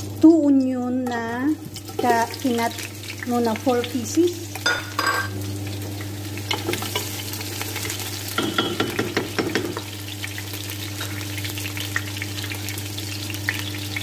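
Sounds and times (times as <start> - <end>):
onions sizzling and crackling: 0.0 - 14.0.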